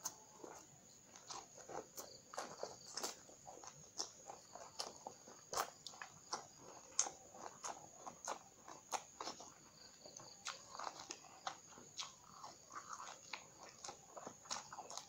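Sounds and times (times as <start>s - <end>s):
chewing crunches: 0.0s - 15.0s.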